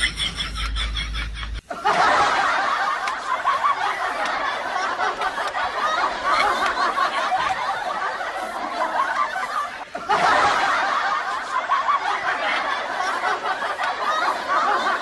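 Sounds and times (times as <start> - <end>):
people laughing and snickering: 0.0 - 15.0.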